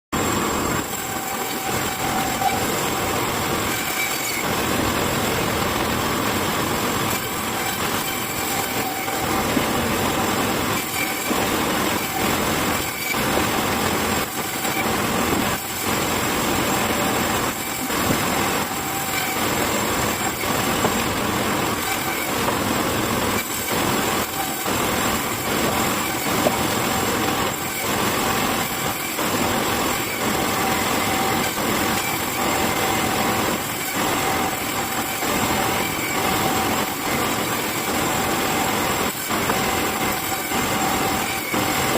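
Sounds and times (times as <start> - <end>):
high machine whine: 0.2 - 41.9
woodworking machine cutting wood: 0.2 - 41.9.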